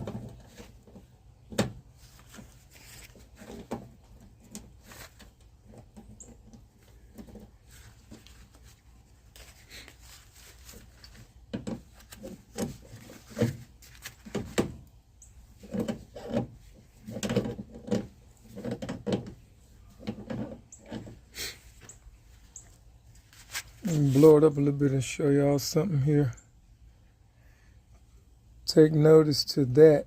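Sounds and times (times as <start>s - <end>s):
rubbing and scraping handling noise: 0.0s - 25.8s.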